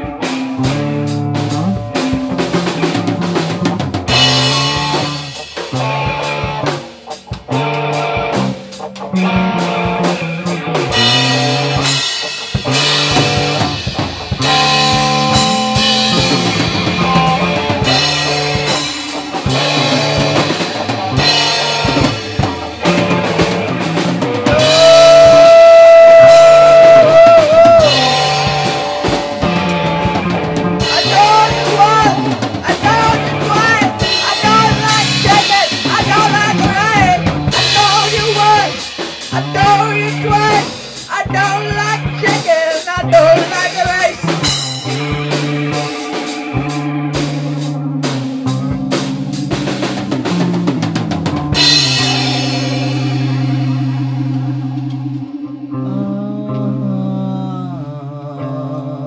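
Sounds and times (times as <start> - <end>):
instrumental rock jam: 0.0 - 58.7
lead guitar bent notes: 0.0 - 58.9
bass guitar riff: 0.0 - 59.0.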